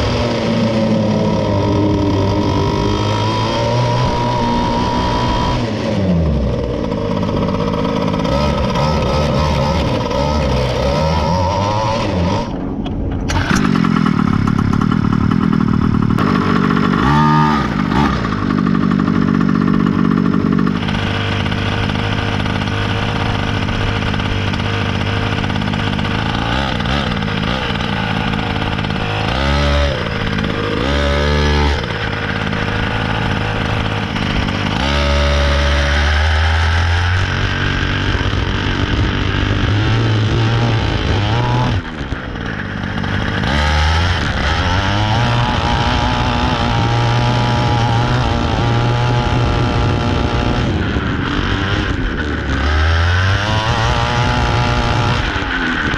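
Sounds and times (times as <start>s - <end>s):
model truck two-stroke engine revving: 0.0s - 55.9s.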